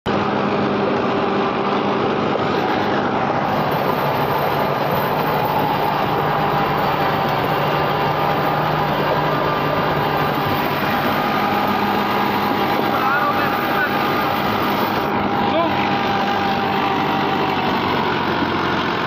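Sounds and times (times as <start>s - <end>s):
tractor diesel engine running: 0.1s - 19.0s
rotavator blades churning soil: 0.2s - 19.0s.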